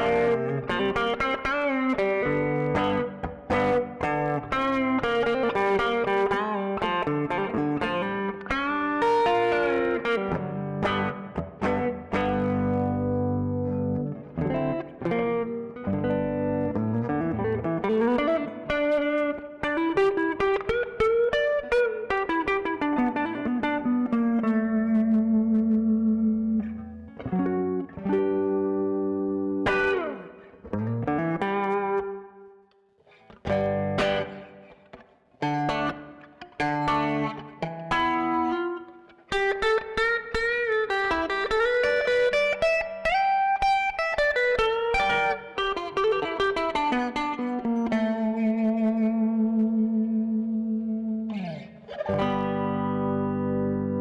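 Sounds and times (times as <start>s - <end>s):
clean electric guitar playing: 0.0s - 54.0s.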